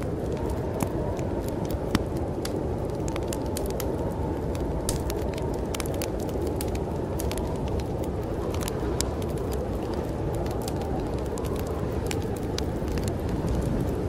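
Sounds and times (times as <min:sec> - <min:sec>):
storm wind rushing: 0:00.0 - 0:14.0
wood fire crackling and popping: 0:00.0 - 0:14.0.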